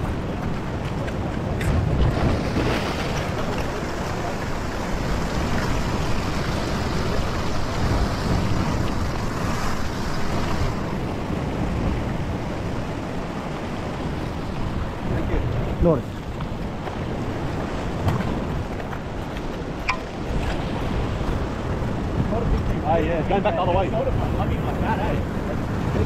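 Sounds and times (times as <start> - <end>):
surf breaking over rocks: 0.0 - 26.0
wind on microphone: 0.0 - 26.0.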